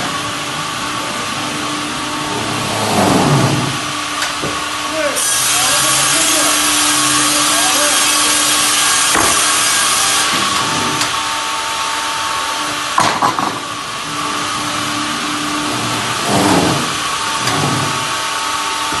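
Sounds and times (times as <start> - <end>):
sawmill whirring hum: 0.0 - 19.0.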